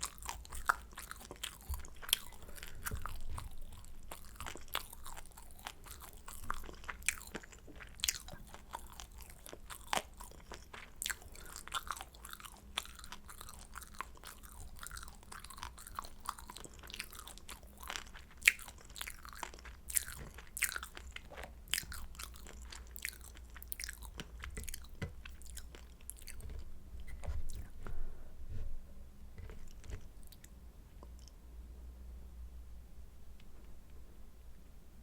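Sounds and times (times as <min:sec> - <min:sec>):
chewing and crunching food: 0:00.0 - 0:28.6, 0:29.3 - 0:31.4.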